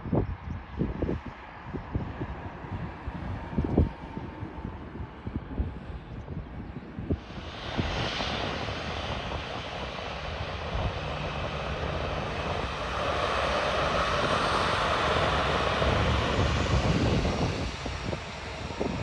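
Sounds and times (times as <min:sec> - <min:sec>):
airliner engines rushing: 0:00.1 - 0:19.0.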